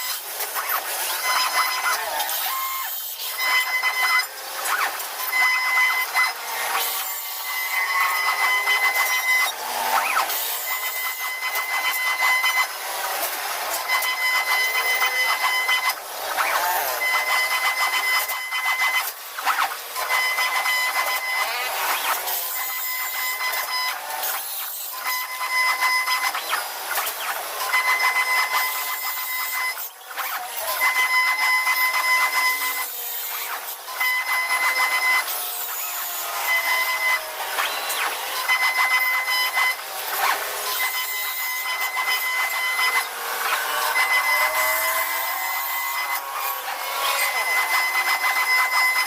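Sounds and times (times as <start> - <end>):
wood router high whine: 0.0 - 49.0.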